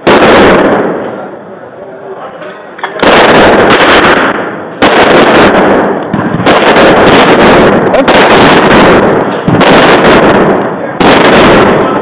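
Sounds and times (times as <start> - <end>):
gunshots echoing: 0.0 - 1.3, 2.8 - 12.0.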